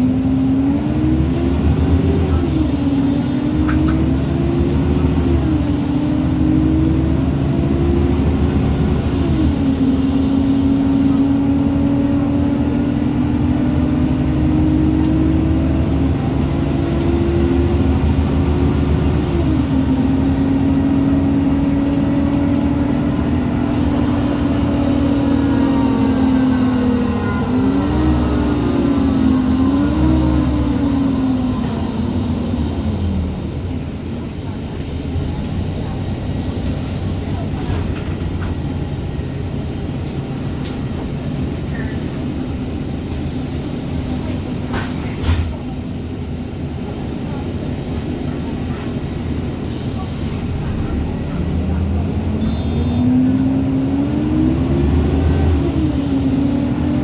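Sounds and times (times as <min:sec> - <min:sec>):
bus drivetrain whine: 0:00.0 - 0:57.0
bus engine running: 0:00.0 - 0:57.0.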